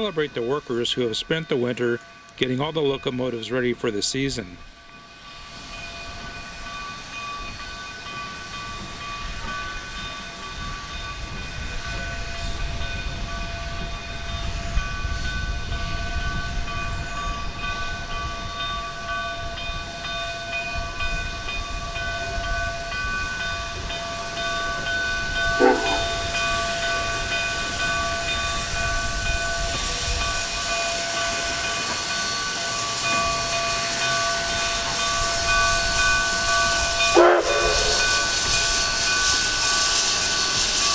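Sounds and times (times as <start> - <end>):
steam hiss: 4.0 - 40.9.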